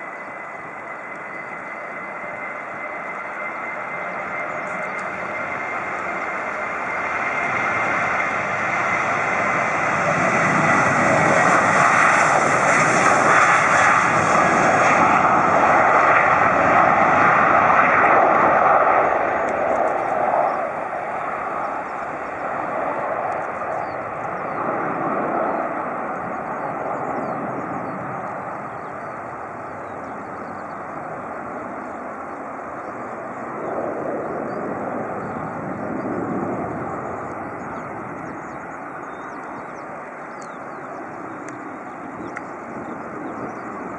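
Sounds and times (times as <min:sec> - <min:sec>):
jet engine roar with whine: 0:00.0 - 0:43.9.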